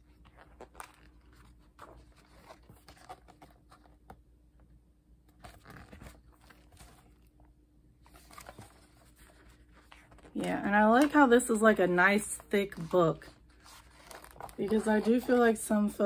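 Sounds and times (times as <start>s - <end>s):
book pages being turned: 0.0s - 4.2s, 5.3s - 7.3s, 8.0s - 15.9s.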